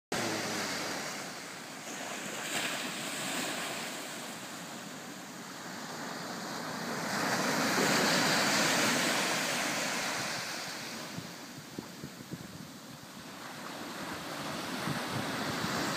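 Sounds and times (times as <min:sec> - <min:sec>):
ocean surf breaking on beach: 0:00.1 - 0:15.9.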